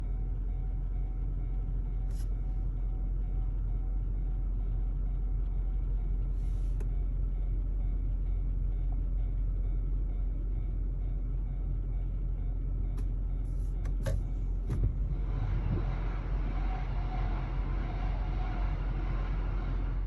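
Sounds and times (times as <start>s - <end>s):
idling vehicle rumble: 0.0s - 20.0s.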